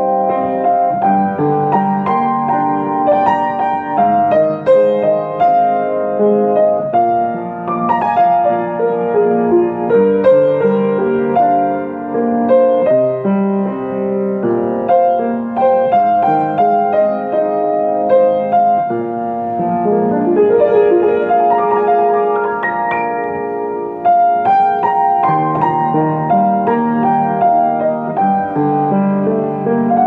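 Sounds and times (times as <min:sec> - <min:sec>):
solo piano: 0:00.0 - 0:30.0.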